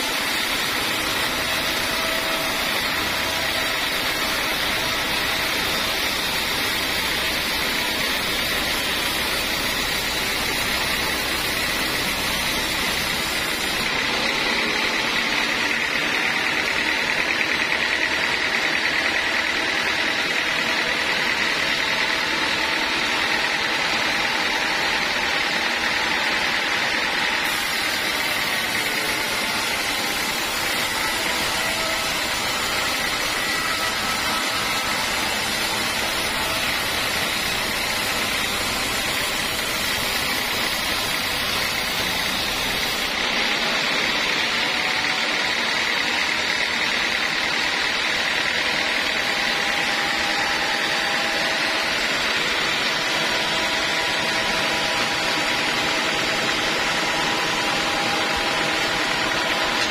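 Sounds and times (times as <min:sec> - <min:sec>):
band saw whining through log: 0:00.0 - 0:59.9.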